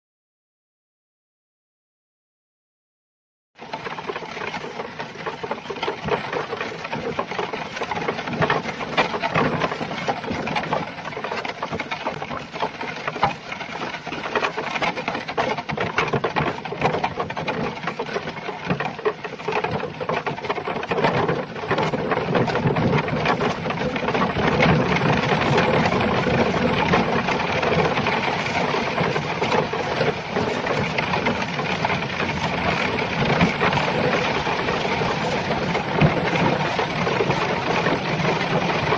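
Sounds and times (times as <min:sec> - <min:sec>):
cart wheels rattling: 0:03.6 - 0:38.9
hooves clopping: 0:03.6 - 0:38.9.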